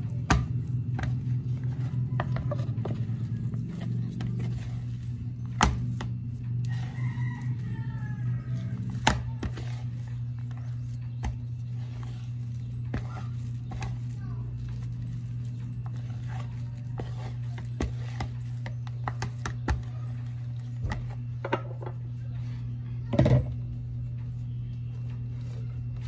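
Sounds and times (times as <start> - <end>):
wooden spoon stirring dough: 0.0 - 26.0.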